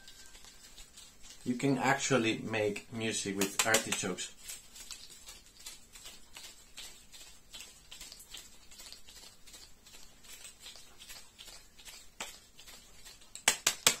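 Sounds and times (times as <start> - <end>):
artichoke leaves crackling: 0.0 - 14.0.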